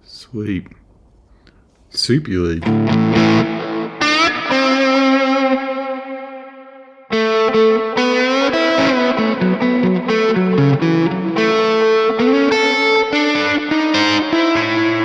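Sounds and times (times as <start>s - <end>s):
distorted electric guitar lead: 2.6s - 15.0s.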